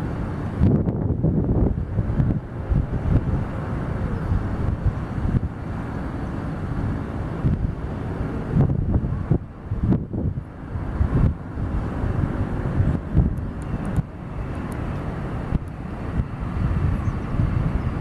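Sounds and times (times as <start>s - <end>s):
jet engines running: 0.0s - 18.0s
wind buffeting microphone: 0.0s - 18.0s.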